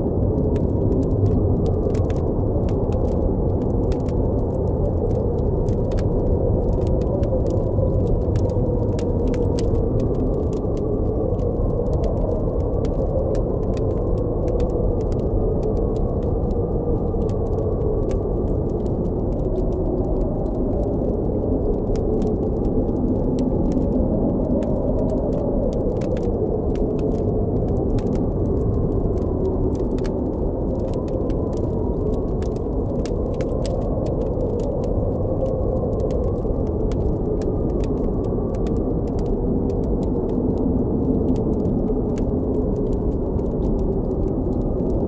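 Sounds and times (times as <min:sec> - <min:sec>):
blizzard wind blowing: 0:00.0 - 0:45.0
campfire crackling: 0:00.1 - 0:45.0.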